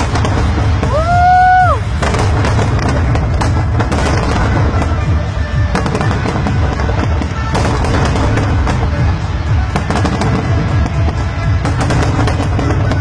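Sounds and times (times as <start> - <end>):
firework whistle: 0.0 - 13.0
fireworks bursts and crackles: 0.0 - 13.0.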